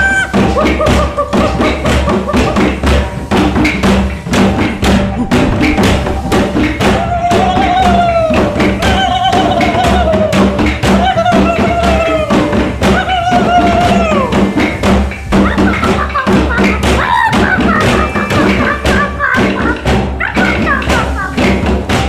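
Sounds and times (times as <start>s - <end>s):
falling melody: 0.0s - 21.4s
sharp percussive beat: 0.0s - 22.0s.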